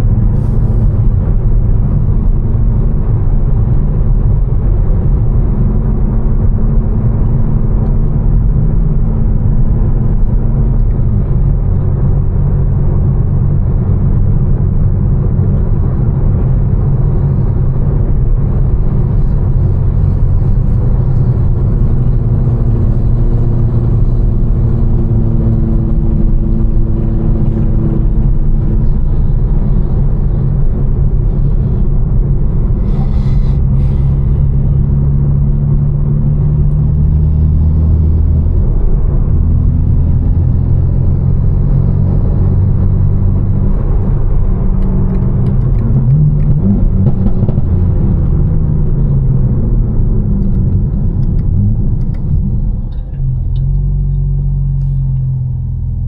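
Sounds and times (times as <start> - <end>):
car engine droning: 0.0 - 56.0
road rumble: 0.0 - 56.0.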